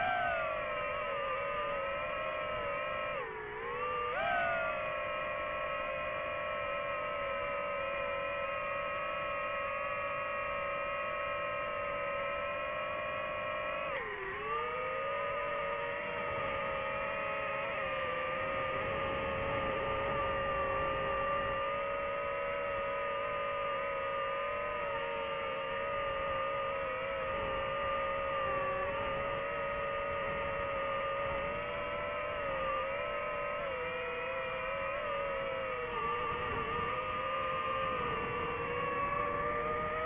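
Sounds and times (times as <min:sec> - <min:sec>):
drone propellers whining: 0:00.0 - 0:40.0.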